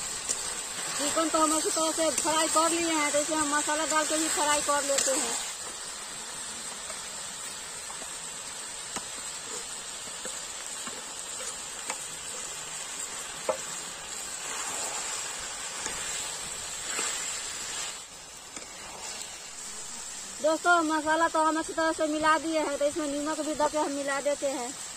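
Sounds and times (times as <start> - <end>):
food sizzling in hot oil: 0.0 - 24.9.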